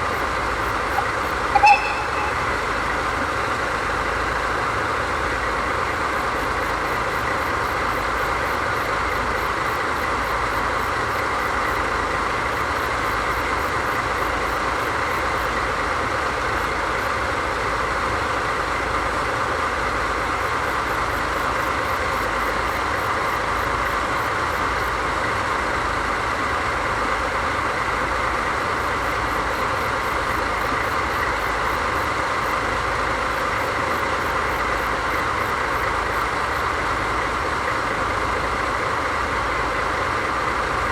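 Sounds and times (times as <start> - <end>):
diesel locomotive idling: 0.0 - 40.9.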